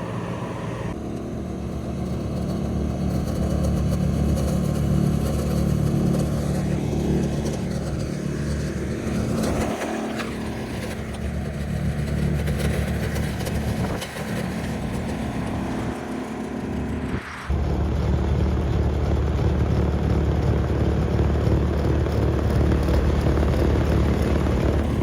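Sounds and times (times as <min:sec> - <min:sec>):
snowblower engine running: 0:00.0 - 0:25.0.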